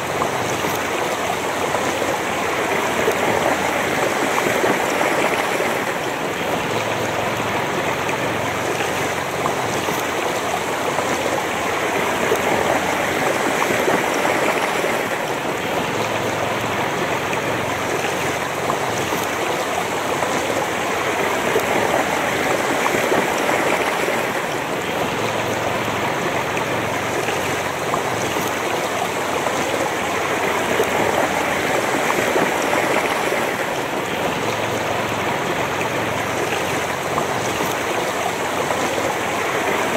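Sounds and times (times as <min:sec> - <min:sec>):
river running over rocks: 0:00.0 - 0:39.9.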